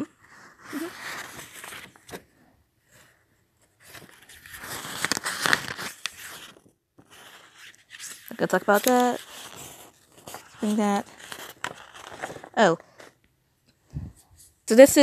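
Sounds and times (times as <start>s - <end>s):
paper rustling and crinkling: 0.0s - 13.3s.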